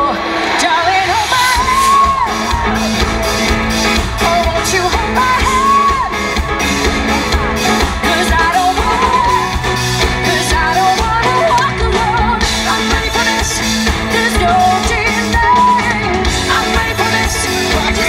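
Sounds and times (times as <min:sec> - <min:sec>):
lead singer singing: 0:00.0 - 0:18.0
live pop-rock band: 0:00.0 - 0:18.0.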